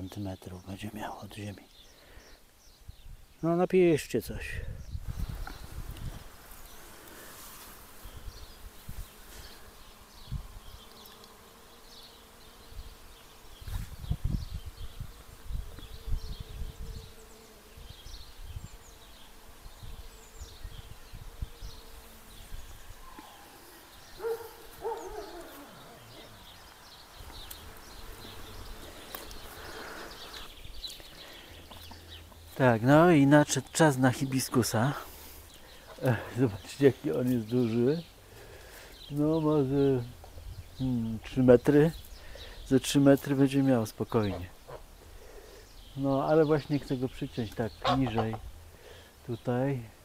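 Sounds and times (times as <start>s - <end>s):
small birds chirping: 0.0s - 50.0s
bees buzzing: 5.0s - 50.0s.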